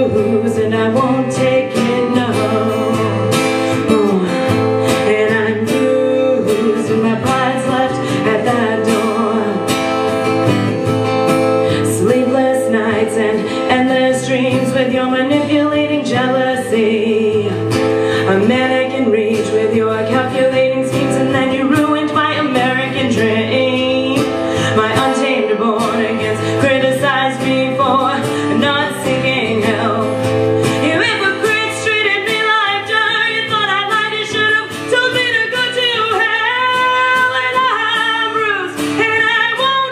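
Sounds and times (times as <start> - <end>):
acoustic guitar: 0.0 - 39.9
woman singing: 0.0 - 39.9.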